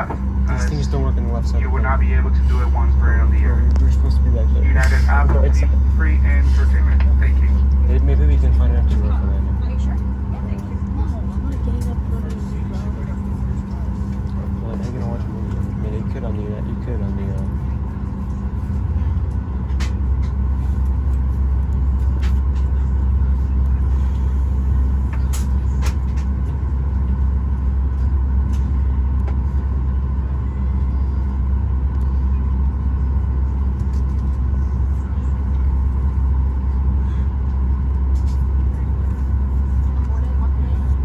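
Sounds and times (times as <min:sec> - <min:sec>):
aircraft cabin rumble: 0:00.0 - 0:41.0.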